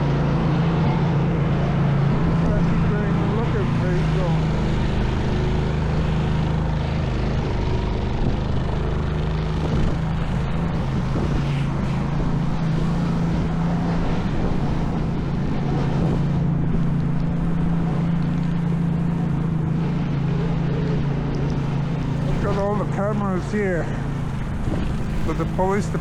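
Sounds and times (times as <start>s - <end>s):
city street noise: 0.0s - 26.0s
vehicle engine humming: 0.0s - 26.0s.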